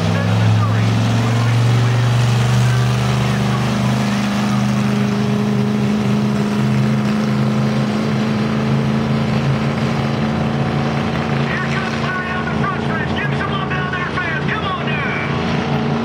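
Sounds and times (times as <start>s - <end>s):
monster truck engine drone: 0.0s - 16.0s.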